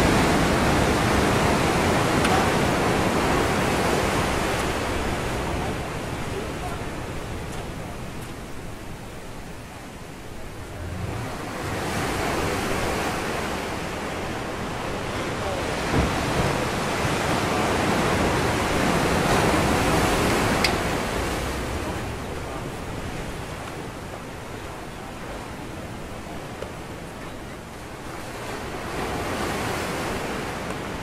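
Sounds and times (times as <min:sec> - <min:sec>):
surf washing against rocks: 0:00.0 - 0:31.0.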